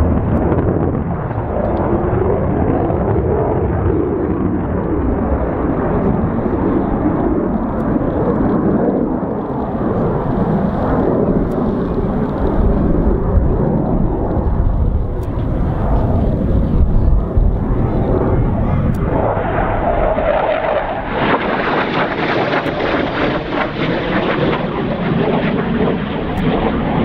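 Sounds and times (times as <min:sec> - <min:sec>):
jet aircraft rumble overhead: 0:00.0 - 0:27.0.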